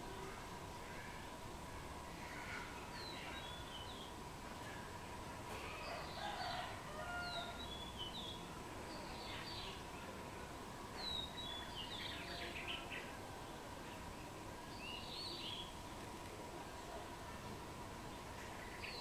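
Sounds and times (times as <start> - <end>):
wild birds chirping: 0.0 - 16.0, 16.7 - 19.0.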